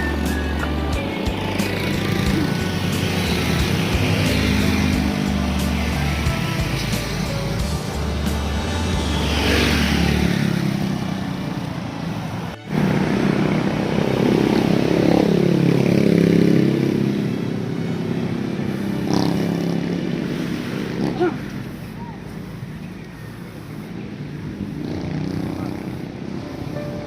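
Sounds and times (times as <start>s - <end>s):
vehicles passing close by: 0.0s - 27.0s.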